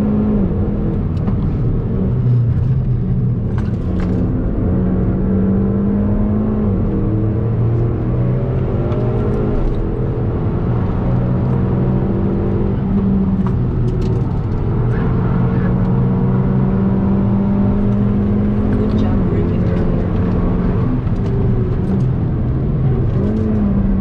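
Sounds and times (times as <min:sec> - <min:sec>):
tyre and road noise: 0:00.0 - 0:24.0.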